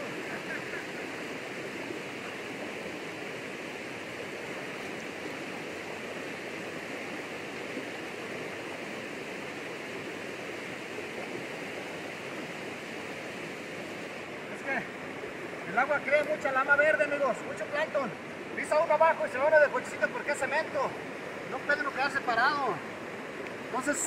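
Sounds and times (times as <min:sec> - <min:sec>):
fast river current rushing: 0:00.0 - 0:24.0.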